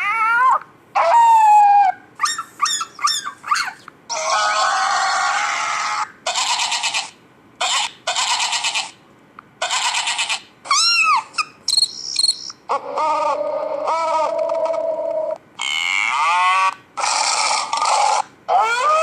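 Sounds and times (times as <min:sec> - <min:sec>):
held pitched animal call: 0:00.0 - 0:09.0, 0:09.6 - 0:19.0.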